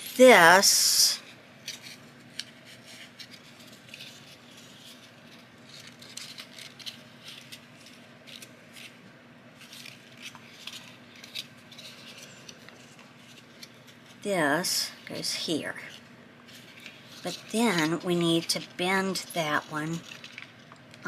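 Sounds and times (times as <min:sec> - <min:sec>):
paper crinkling: 0:01.3 - 0:14.2, 0:14.9 - 0:21.0.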